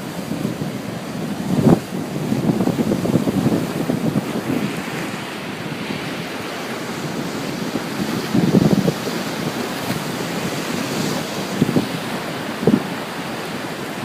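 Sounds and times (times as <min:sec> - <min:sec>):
ocean surf breaking on beach: 0:00.0 - 0:14.0
wind buffeting microphone: 0:00.0 - 0:14.0.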